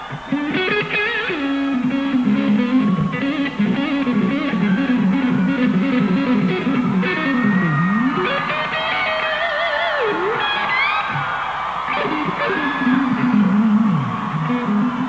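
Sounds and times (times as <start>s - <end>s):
electric guitar solo: 0.0s - 15.0s.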